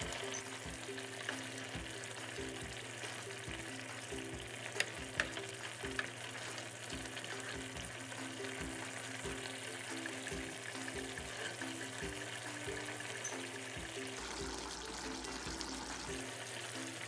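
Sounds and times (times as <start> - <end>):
curry sizzling in a frying pan: 0.0 - 17.0
soft background music with beat: 0.0 - 17.0.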